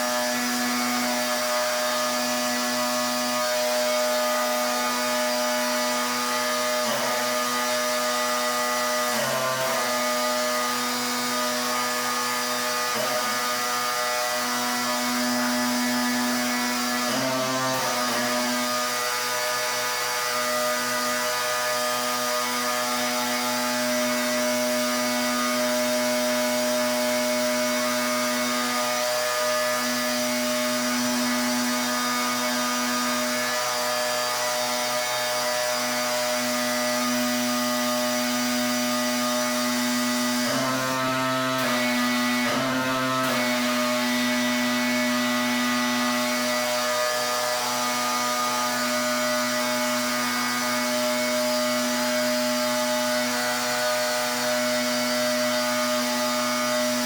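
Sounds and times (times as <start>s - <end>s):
pressure washer running: 0.0s - 57.0s.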